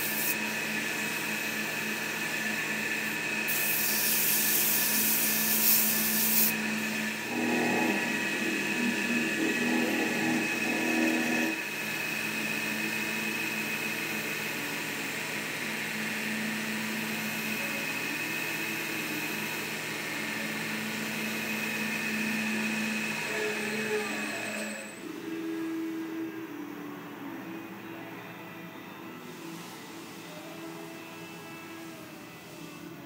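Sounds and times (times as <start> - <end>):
wood lathe motor whine: 0.0 - 26.7.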